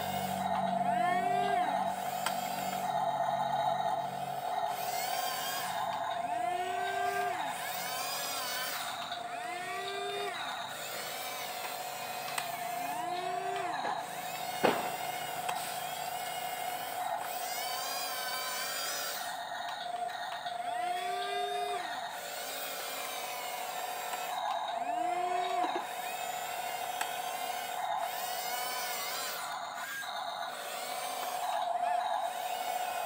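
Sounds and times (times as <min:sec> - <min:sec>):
toy electric motors whining: 0:00.0 - 0:33.0.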